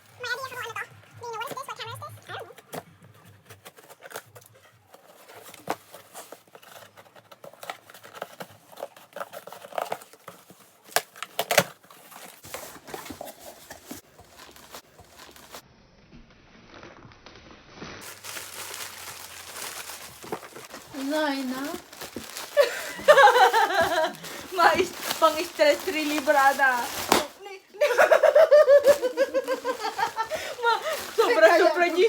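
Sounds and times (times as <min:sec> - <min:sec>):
packaging crinkling and tearing: 0:02.6 - 0:15.6, 0:17.0 - 0:32.0.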